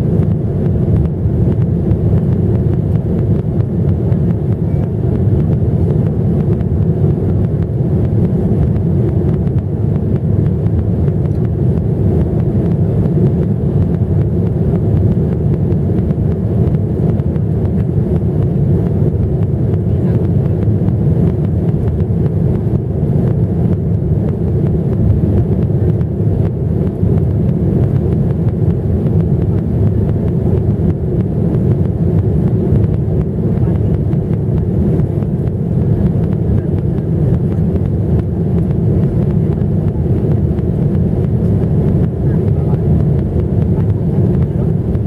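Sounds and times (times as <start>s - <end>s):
jet engines rumbling: 0.0s - 45.0s
wind buffeting microphone: 0.0s - 45.0s.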